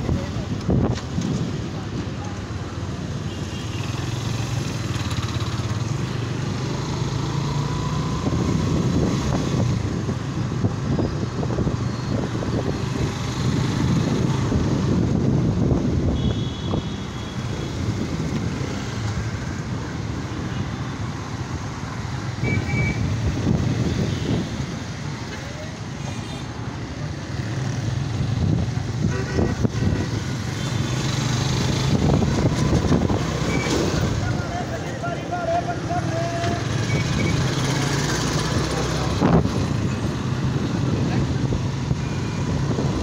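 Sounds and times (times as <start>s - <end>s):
rumble of traffic: 0.0s - 43.0s.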